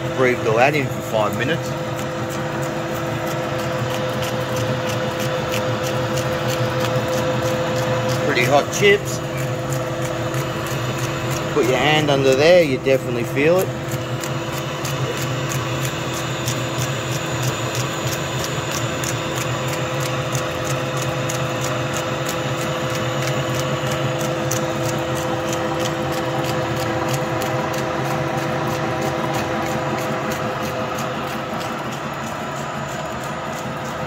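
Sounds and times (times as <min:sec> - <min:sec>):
lathe humming: 0:00.0 - 0:34.0
fast regular ticking: 0:00.2 - 0:34.0.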